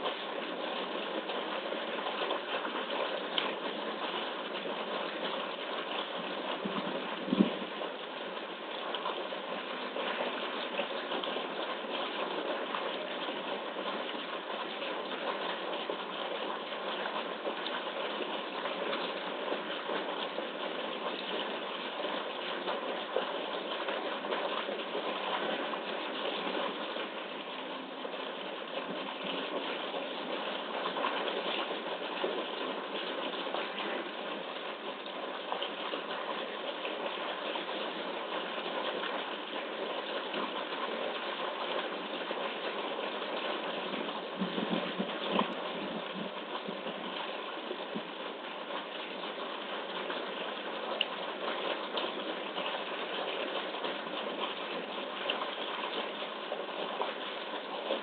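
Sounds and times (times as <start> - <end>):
pump running: 0.0 - 58.0
running water churning: 0.0 - 58.0.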